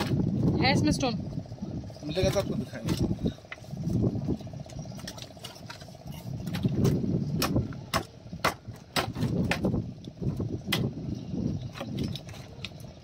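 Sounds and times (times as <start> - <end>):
low rumbling background: 0.0 - 13.0.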